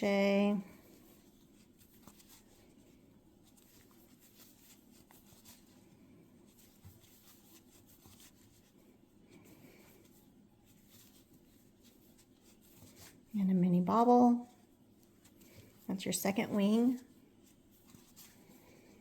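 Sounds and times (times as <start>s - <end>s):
yarn rubbing: 0.0s - 19.0s.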